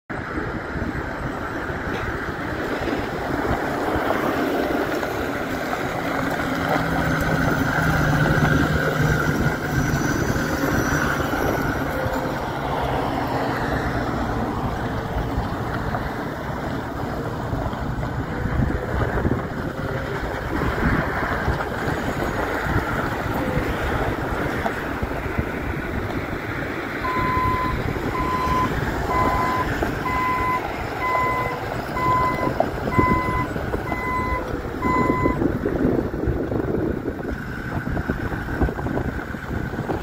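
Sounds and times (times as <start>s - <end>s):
truck engine driving past: 0.7s - 36.2s.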